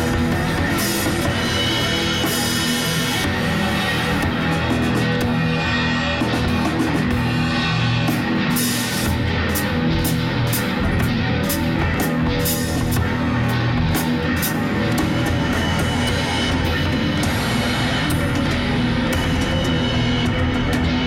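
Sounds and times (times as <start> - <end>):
drum kit: 0.0 - 21.0
electric guitar: 0.0 - 21.0.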